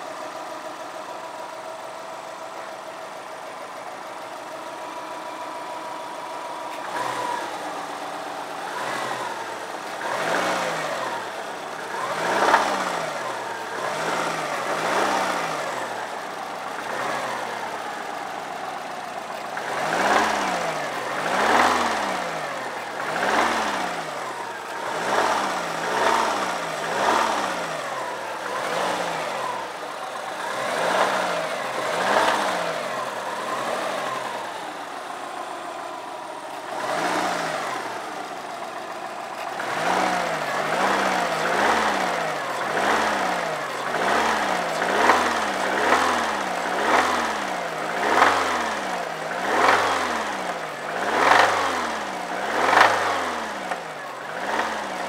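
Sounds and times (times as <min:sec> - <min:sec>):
car engine idling: 0:00.0 - 0:55.0
car engine revving: 0:00.0 - 0:55.0.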